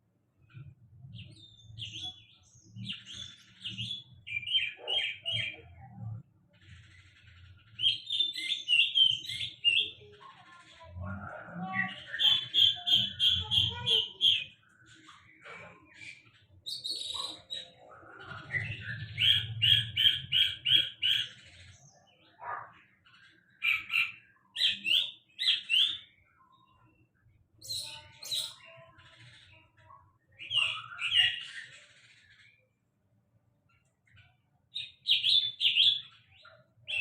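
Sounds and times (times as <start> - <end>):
songbird singing: 0.3 - 37.0.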